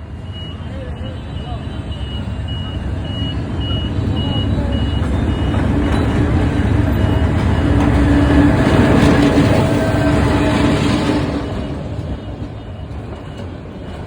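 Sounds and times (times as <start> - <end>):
level-crossing warning beeper: 0.0 - 14.0
train rumble: 0.0 - 14.0.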